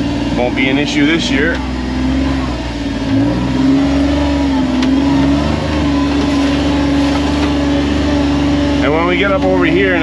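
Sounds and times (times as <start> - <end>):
vehicle engine pulling at crawl speed: 0.0 - 10.0.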